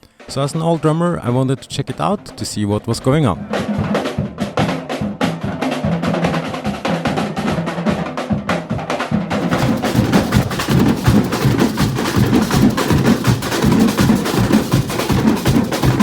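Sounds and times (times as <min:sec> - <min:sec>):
drum band playing: 0:01.7 - 0:16.0.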